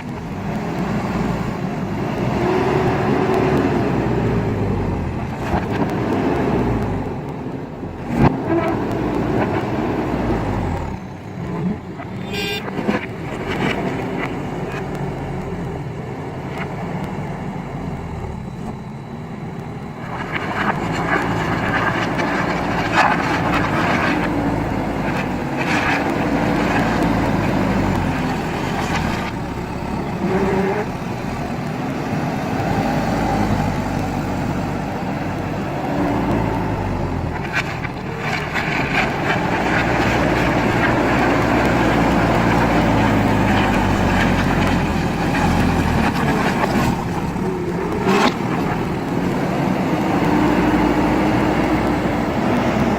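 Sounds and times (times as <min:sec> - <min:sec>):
diesel engine running under load: 0:00.0 - 0:52.9
machine working in gravel: 0:00.0 - 0:52.9.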